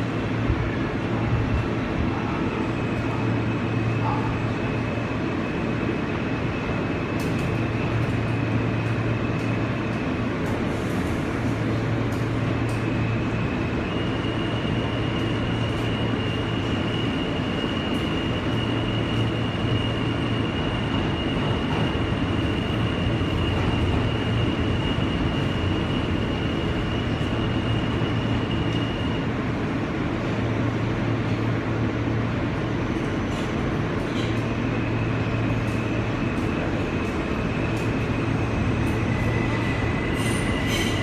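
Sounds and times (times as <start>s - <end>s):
subway car rumble and hiss: 0.0s - 41.0s.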